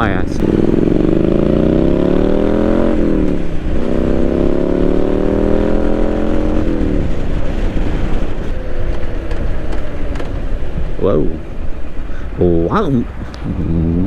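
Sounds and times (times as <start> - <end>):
motorcycle engine accelerating: 0.0 - 12.1, 13.2 - 14.0.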